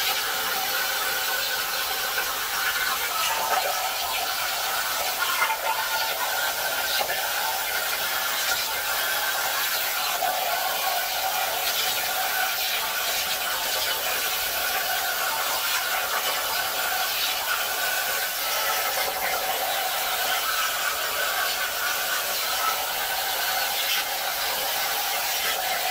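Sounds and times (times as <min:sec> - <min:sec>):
plasma cutter hissing: 0:00.0 - 0:25.9.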